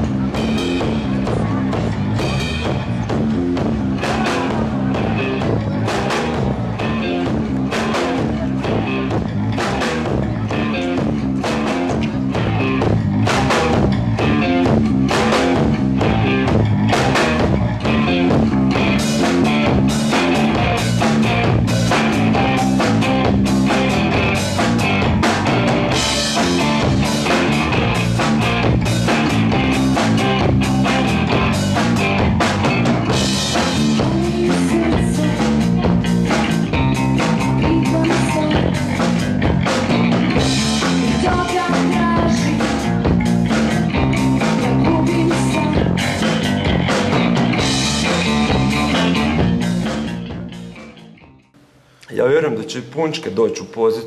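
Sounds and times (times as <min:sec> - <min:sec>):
drum kit steady beat: 0:00.0 - 0:52.0
rock band playing: 0:00.0 - 0:52.3.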